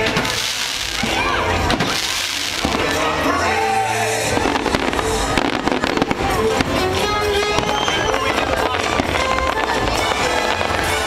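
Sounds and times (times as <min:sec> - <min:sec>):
fireworks bangs: 0:00.0 - 0:03.3, 0:04.2 - 0:11.0
show music: 0:00.0 - 0:11.0.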